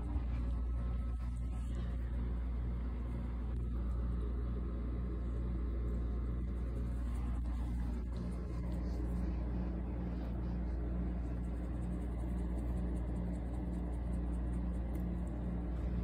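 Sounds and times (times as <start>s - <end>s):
faint pulsing hum: 0.0s - 16.0s
steady low rumble: 0.0s - 16.0s.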